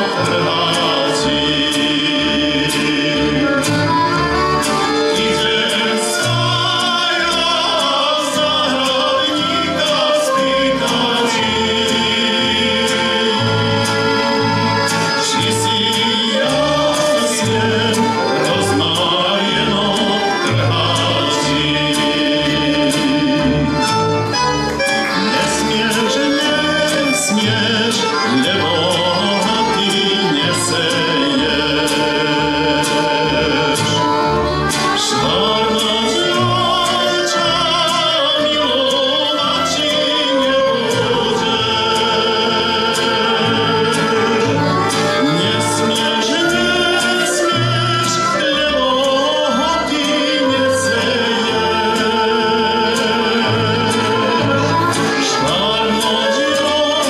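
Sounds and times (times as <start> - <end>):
double bass line: 0.0 - 57.0
folk band playing: 0.0 - 57.0
man singing folk song: 0.0 - 57.0.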